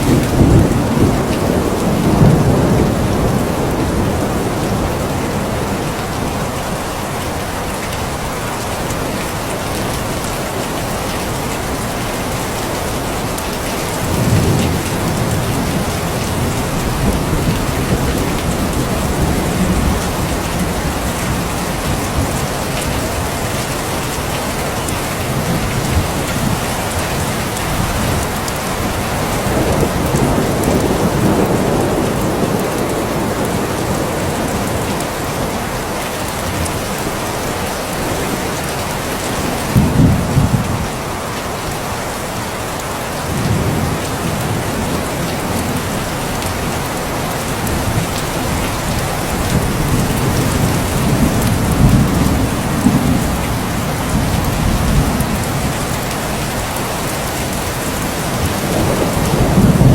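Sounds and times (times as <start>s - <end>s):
thunder rumbling: 0.0s - 6.8s, 12.6s - 41.0s, 43.2s - 59.9s
steady rain falling: 0.0s - 59.9s.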